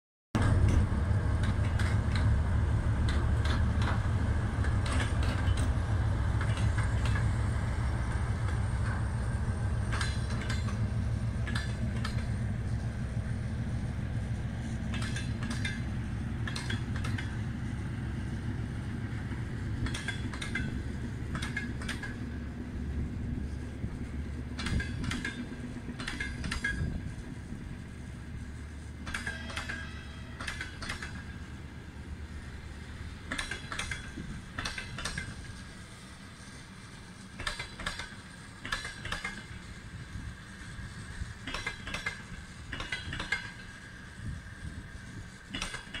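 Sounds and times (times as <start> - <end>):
train wheels clacking over rail joints: 0.4 - 46.0.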